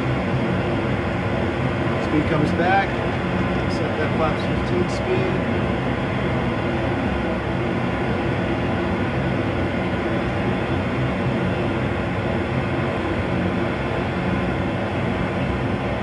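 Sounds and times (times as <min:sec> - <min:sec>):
cockpit engine rumble and hiss: 0:00.0 - 0:16.0.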